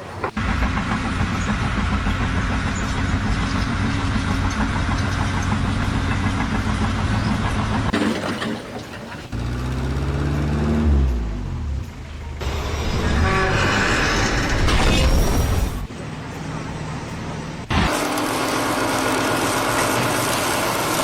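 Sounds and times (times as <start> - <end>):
engine running steadily: 0.2 - 8.0, 9.2 - 21.0
second engine: 0.2 - 8.5, 9.1 - 21.0.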